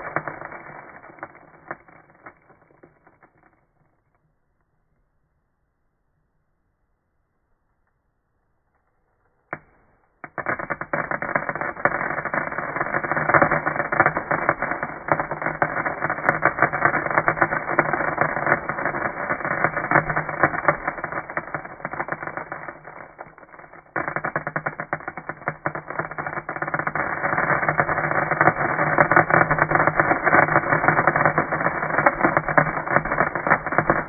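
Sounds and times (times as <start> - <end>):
rapid firework-like crackling: 0.0 - 3.6, 9.5 - 34.0.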